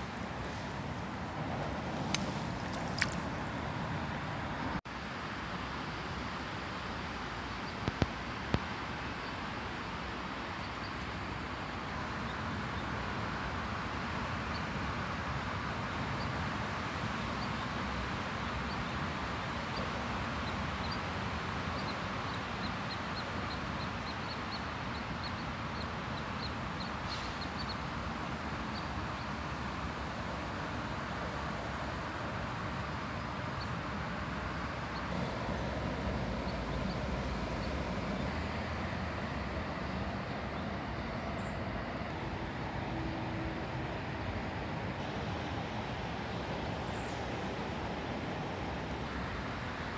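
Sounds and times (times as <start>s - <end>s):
distant traffic: 0.0s - 49.9s.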